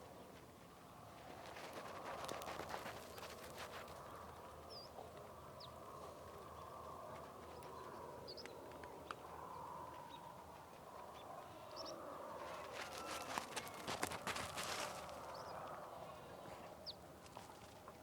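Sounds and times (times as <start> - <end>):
soft rural background: 0.0 - 18.0.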